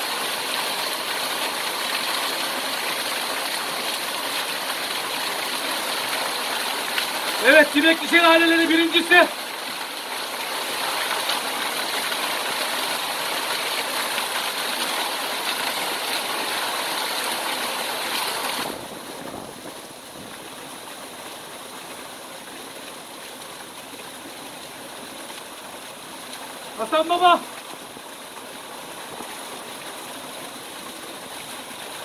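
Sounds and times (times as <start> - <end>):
waterfall pouring into pool: 0.0 - 32.0.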